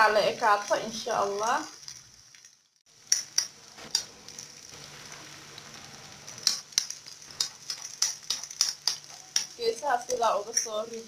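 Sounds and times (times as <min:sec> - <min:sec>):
pancake sizzling in oil: 0:00.0 - 0:11.0.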